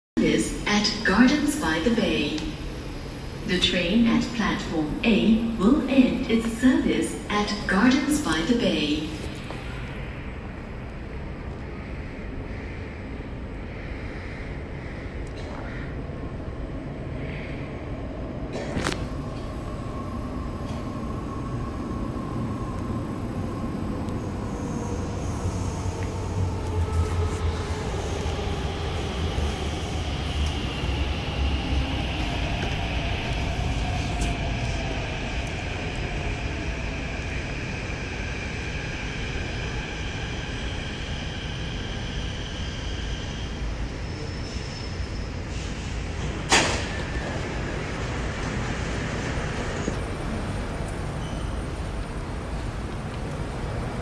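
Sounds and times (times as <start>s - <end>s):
metro train rumble: 0.2s - 54.0s.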